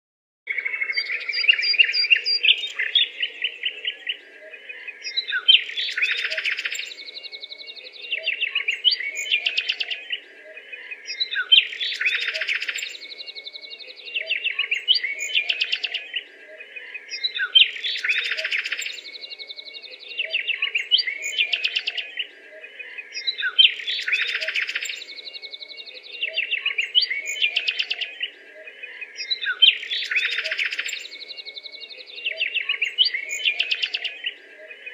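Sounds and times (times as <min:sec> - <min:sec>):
small birds chirping and trilling: 0:00.5 - 0:34.9.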